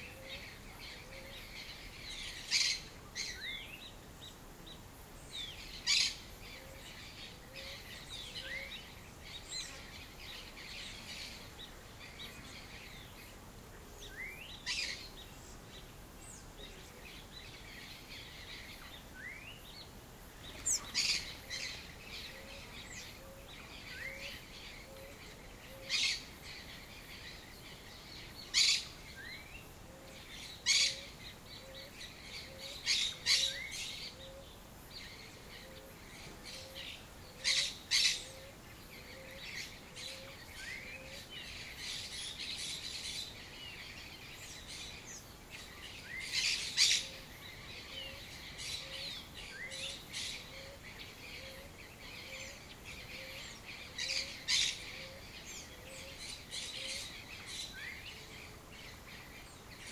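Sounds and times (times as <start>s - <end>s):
birds twittering and chirping: 0.0s - 59.9s.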